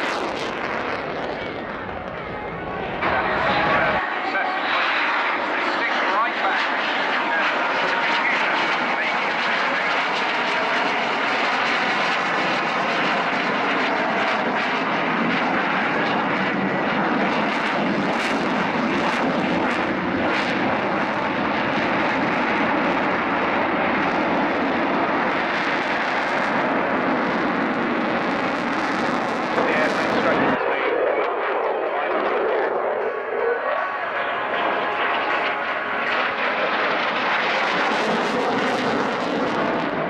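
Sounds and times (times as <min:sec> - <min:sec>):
loud jet roar overhead: 0:00.0 - 0:40.0.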